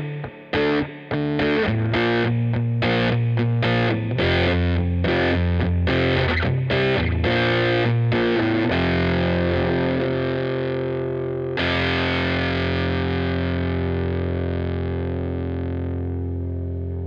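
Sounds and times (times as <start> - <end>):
distorted fuzz bass guitar: 0.0 - 17.0.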